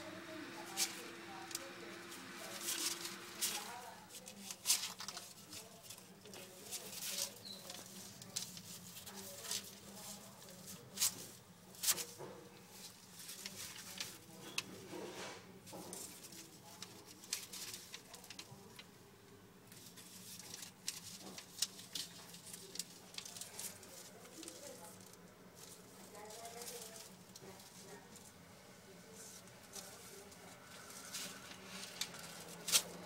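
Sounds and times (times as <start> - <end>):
paper rustling: 0.6 - 18.9, 19.7 - 28.2, 29.1 - 33.0.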